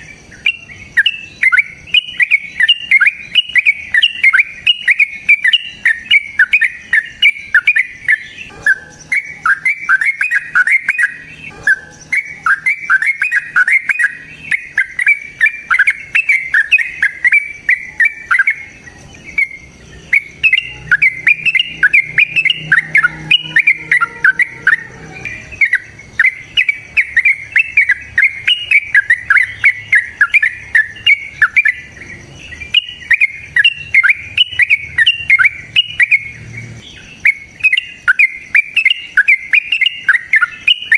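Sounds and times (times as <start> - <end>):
bird singing bubbly notes: 0.0 - 40.9.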